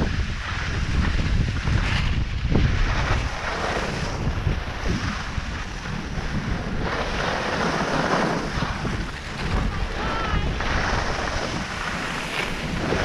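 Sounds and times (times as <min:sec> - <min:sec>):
skis hissing over snow: 0:00.0 - 0:13.0
wind buffeting microphone: 0:00.0 - 0:13.0.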